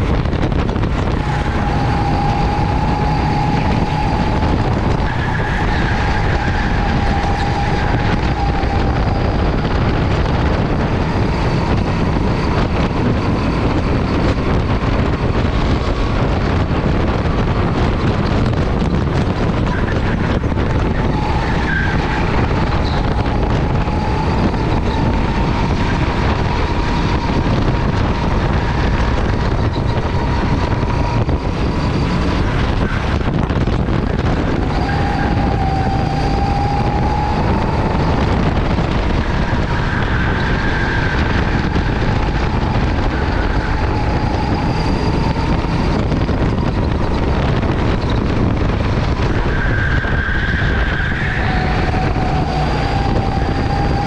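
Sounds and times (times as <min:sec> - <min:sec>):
go-kart engine high note: 0:00.0 - 0:54.0
wind and track noise: 0:00.0 - 0:54.0.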